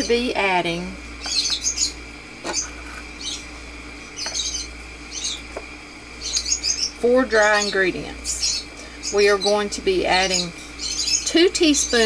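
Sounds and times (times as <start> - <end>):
steady low hum: 0.0 - 12.0
small bird chirping: 1.1 - 12.0.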